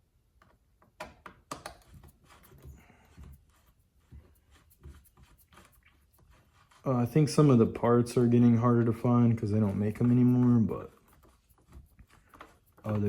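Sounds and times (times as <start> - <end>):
soft rustle: 1.8 - 13.0.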